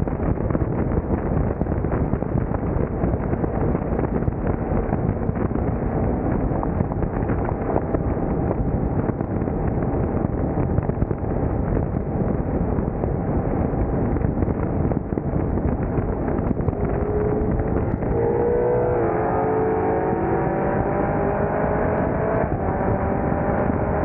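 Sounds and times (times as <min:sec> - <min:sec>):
car driving at speed: 0:00.0 - 0:24.0
wind buffeting microphone: 0:00.0 - 0:24.0
steady engine tone: 0:00.2 - 0:24.0.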